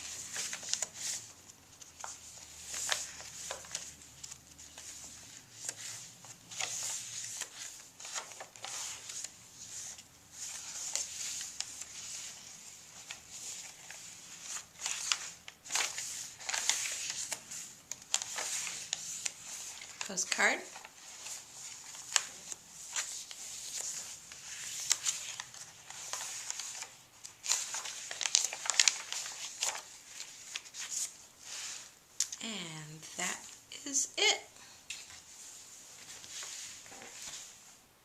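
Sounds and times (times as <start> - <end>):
paper pages rustling: 0.0 - 32.4, 34.9 - 37.8.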